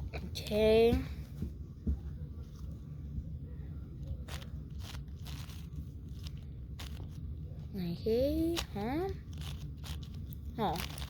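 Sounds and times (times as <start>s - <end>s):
low handling rumble: 0.0s - 11.0s.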